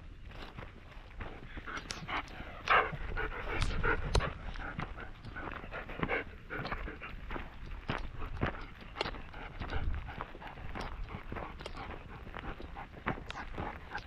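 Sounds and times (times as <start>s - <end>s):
dog panting: 1.2s - 14.0s.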